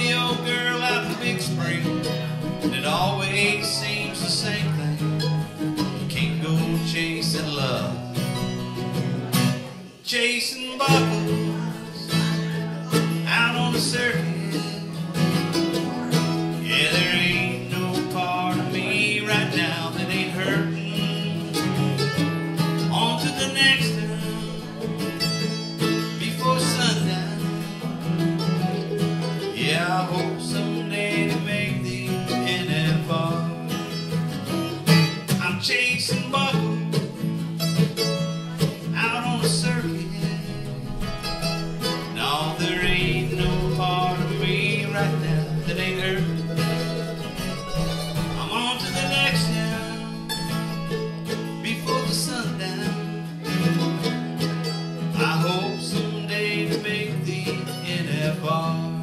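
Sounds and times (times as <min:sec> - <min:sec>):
guitar and mandolin playing: 0:00.0 - 0:59.0.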